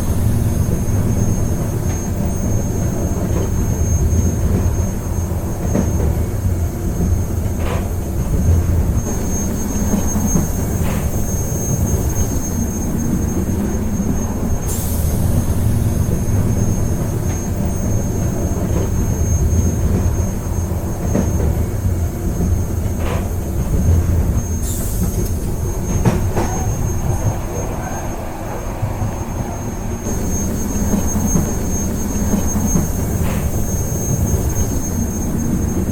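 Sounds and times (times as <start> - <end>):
train rumbling on rails: 0.0 - 35.9.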